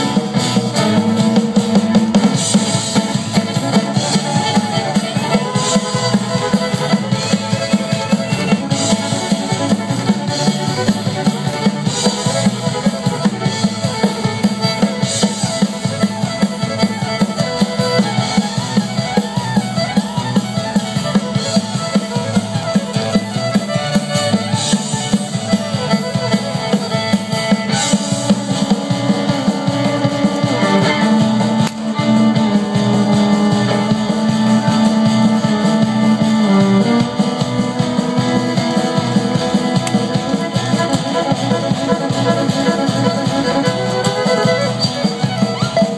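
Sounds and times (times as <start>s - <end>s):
drum kit steady beat: 0.0s - 45.9s
live band playing: 0.0s - 45.9s.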